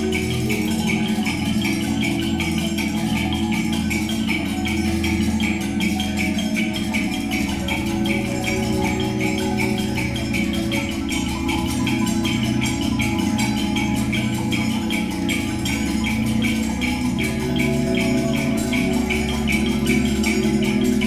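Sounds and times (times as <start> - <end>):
marimbas playing rhythmic patterns: 0.0 - 21.0.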